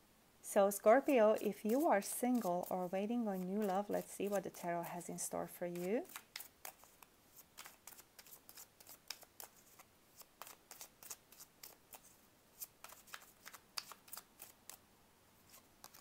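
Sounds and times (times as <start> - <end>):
cards being shuffled: 1.0 - 5.1, 5.7 - 14.8, 15.5 - 16.0.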